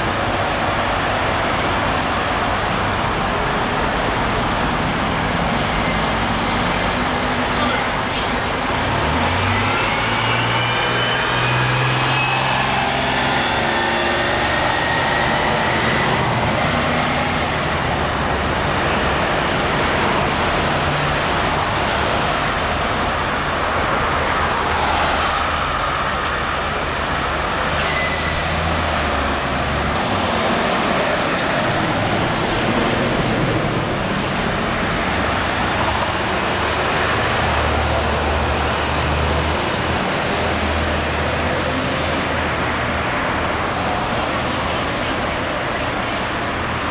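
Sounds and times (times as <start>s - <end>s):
road traffic noise: 0.0s - 46.9s.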